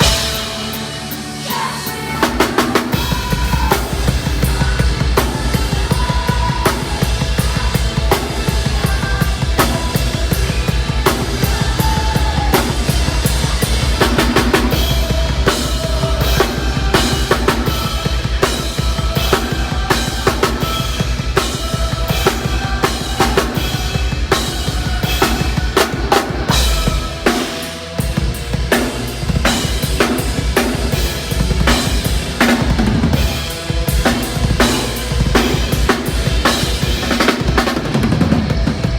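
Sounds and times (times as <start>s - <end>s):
rapid kick and snare drum hits: 0.0s - 1.0s, 2.2s - 38.9s
live metal band playing: 0.0s - 38.9s.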